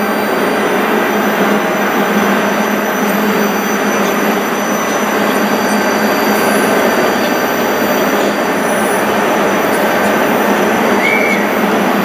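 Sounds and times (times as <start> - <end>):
high-pitched whine: 0.0 - 12.0
train rolling past: 0.0 - 12.0.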